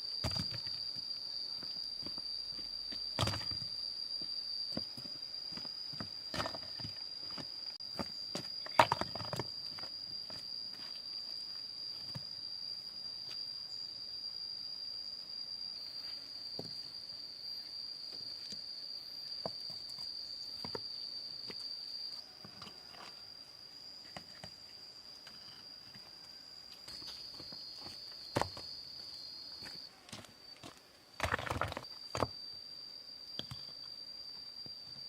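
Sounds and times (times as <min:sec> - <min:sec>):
high-pitched insect trill: 0:00.0 - 0:35.0.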